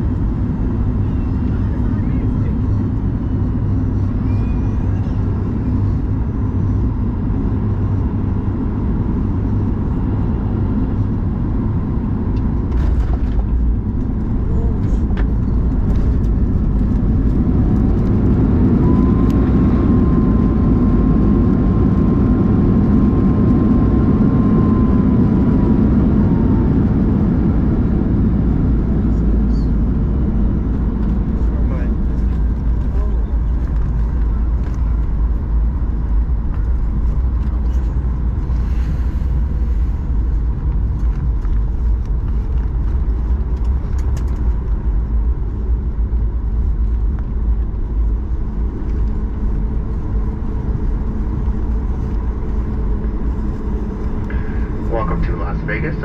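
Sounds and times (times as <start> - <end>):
airplane cabin rumble: 0.0 - 56.0
jet engine whine: 0.0 - 56.0.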